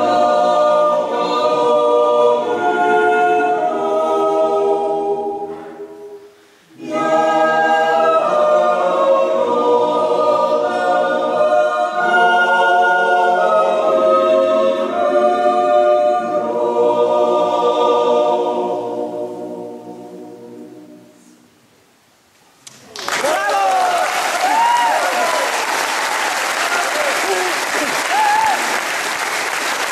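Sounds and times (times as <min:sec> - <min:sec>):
choir yodeling a cappella: 0:00.0 - 0:21.4, 0:23.6 - 0:28.8.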